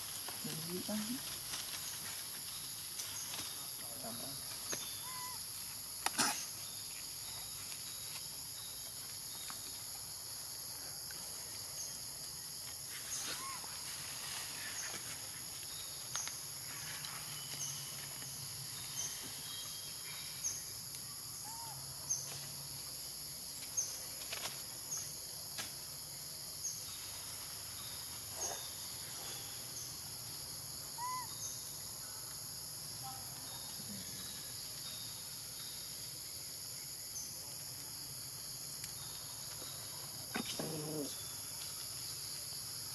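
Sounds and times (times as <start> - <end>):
insect chorus buzzing: 0.0 - 42.9.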